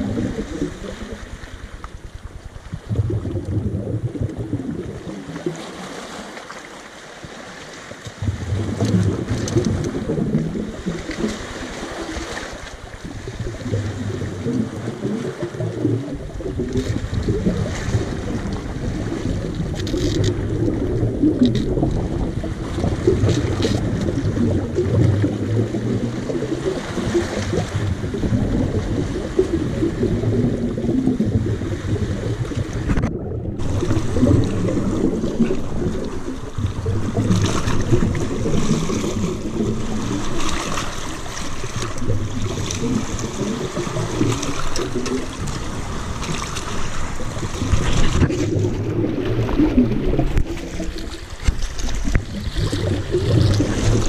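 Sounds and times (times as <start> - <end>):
small waves splashing against rocks: 0.0 - 54.0
low rumble: 8.2 - 11.8, 12.9 - 54.0.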